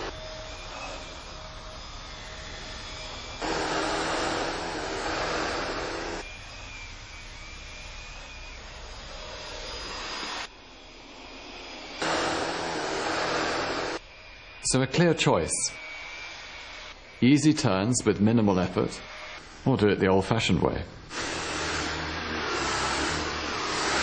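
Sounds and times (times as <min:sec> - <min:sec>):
vacuum cleaner motor whine: 0:00.0 - 0:19.7, 0:21.1 - 0:24.0.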